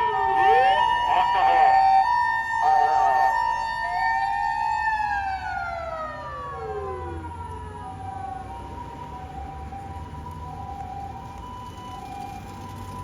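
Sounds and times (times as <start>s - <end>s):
ambulance siren wailing: 0.0s - 13.0s
engine and road rumble: 0.0s - 13.0s
two-tone siren: 0.0s - 13.0s.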